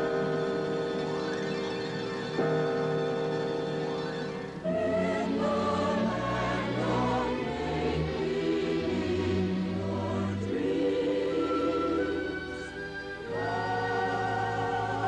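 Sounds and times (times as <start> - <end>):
choir singing held chords: 0.0 - 15.0
orchestral music: 0.0 - 15.0.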